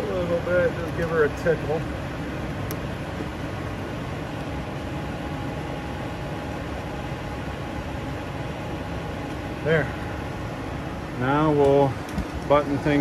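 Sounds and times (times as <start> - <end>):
gas furnace burners and fans humming: 0.0 - 13.0.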